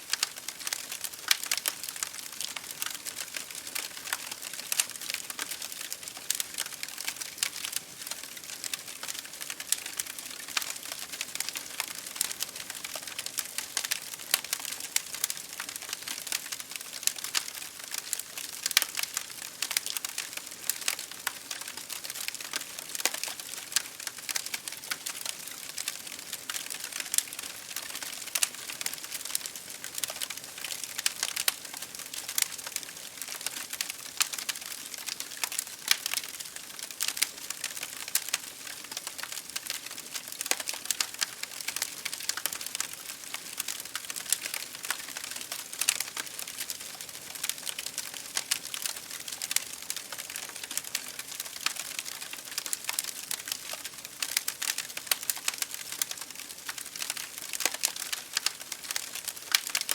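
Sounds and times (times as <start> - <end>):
rain pattering on window: 0.0 - 59.9
wood fire crackling: 0.0 - 59.9.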